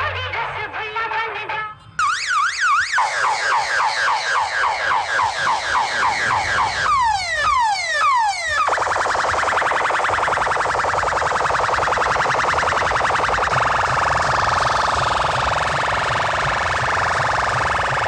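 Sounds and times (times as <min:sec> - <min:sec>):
electronic siren sweeping tones: 0:02.0 - 0:18.0.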